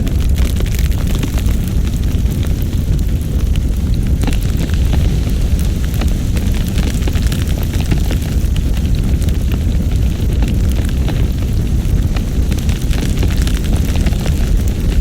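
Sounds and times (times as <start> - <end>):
blizzard wind: 0.0 - 15.0
faint ticks and crackles: 0.0 - 15.0.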